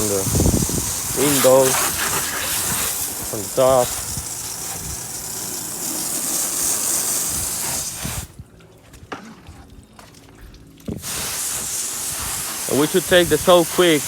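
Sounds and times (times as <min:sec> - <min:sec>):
garden hose spraying water: 0:00.0 - 0:08.5, 0:10.9 - 0:14.0.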